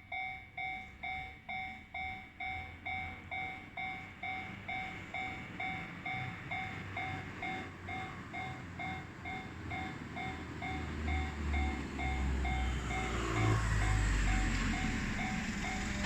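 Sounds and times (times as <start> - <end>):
level crossing warning bell: 0.0 - 16.0
train low rumble: 0.0 - 16.0.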